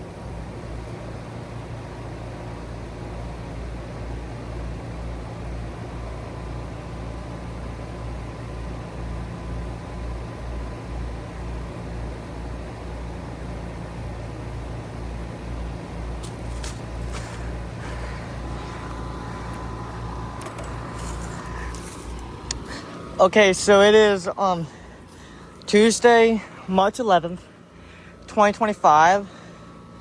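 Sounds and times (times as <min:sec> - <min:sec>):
compressor hum: 0:00.0 - 0:30.0
condenser fan rushing: 0:00.0 - 0:30.0.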